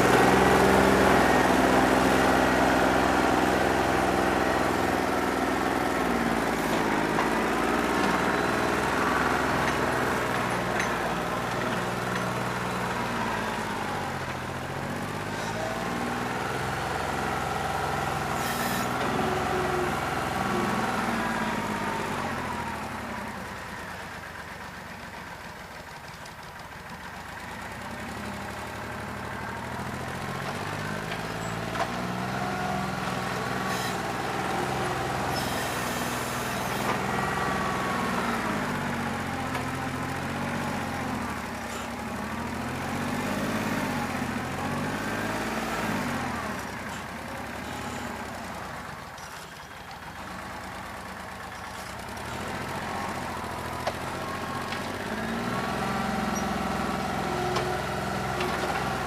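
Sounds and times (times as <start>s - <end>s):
tractor diesel engine running rough: 0.0s - 59.0s.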